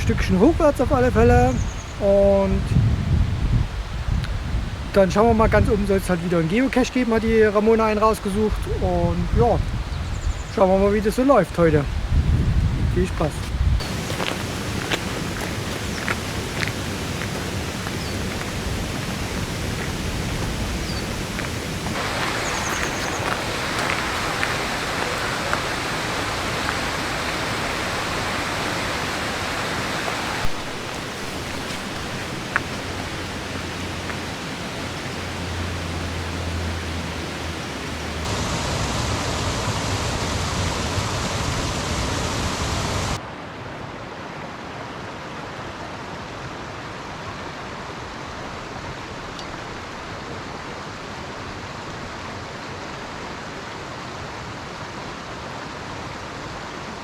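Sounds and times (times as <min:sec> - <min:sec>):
mountain stream rushing: 0:03.7 - 0:57.0.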